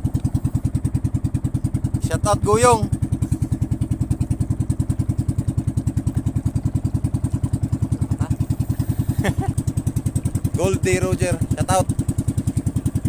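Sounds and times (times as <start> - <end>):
boat engine puttering: 0.0 - 13.0.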